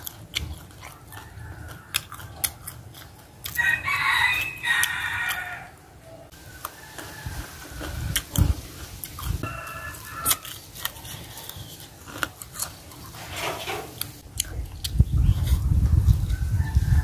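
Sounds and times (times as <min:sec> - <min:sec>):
crunching of crispy fried fish: 0:00.0 - 0:05.6, 0:06.5 - 0:15.1.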